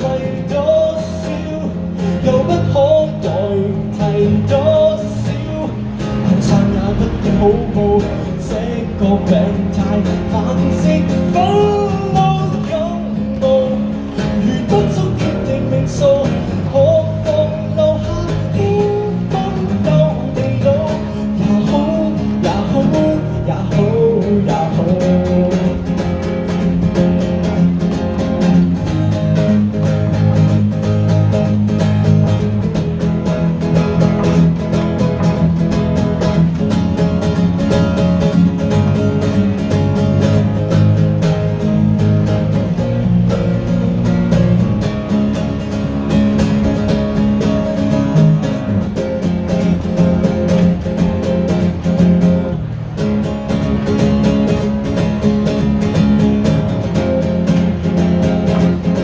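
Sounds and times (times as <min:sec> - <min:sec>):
acoustic guitar strumming and picking: 0:00.0 - 0:59.0.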